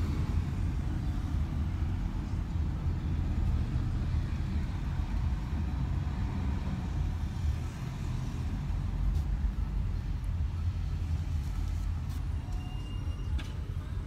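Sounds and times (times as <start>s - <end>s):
road and engine rumble in car: 0.0s - 14.0s.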